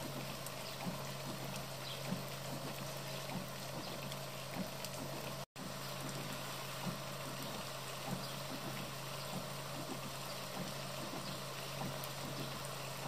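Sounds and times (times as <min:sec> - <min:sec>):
water dripping: 0:00.0 - 0:13.0
water running: 0:00.0 - 0:13.0.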